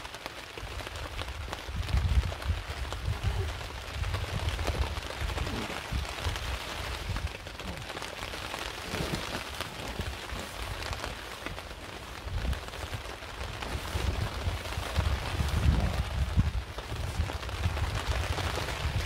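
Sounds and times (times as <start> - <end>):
heavy rain on a tarp: 0.0 - 19.0
wind gusts rumbling: 1.0 - 19.0.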